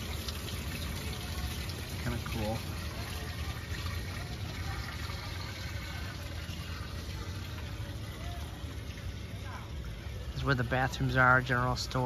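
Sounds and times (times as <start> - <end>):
water running through sluice: 0.0 - 12.0.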